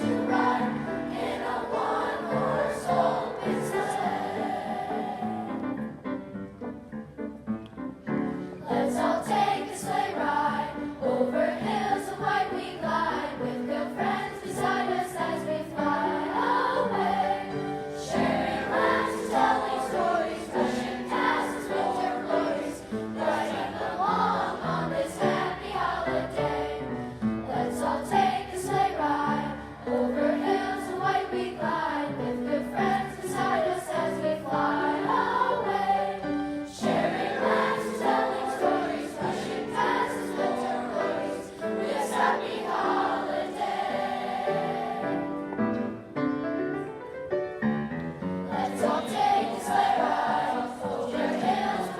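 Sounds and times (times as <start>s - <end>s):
children's choir singing: 0.0s - 6.0s, 8.1s - 46.2s, 48.4s - 51.9s
musical accompaniment: 0.0s - 51.9s.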